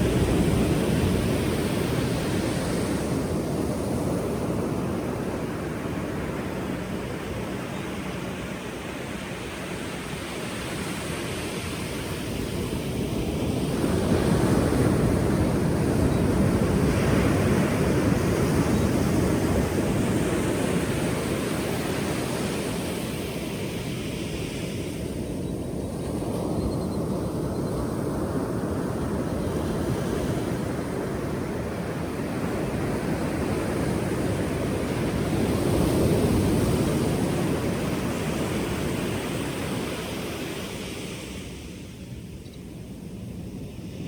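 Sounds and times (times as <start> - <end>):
ocean waves breaking: 0.0 - 42.1.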